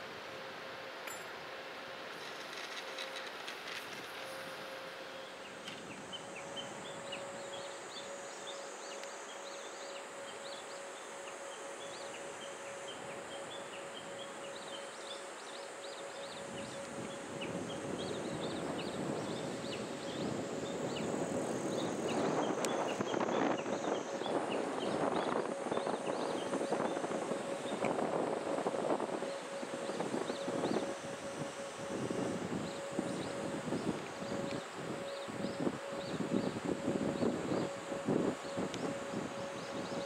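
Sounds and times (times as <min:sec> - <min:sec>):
insects buzzing: 0:00.0 - 0:40.0
steady mid-pitched hum: 0:00.0 - 0:40.0.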